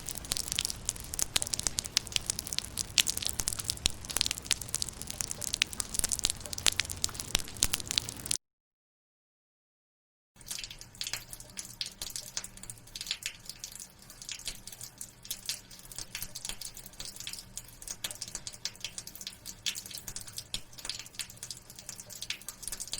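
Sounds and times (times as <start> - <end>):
rain dripping and pattering: 0.0 - 8.4, 10.4 - 22.9.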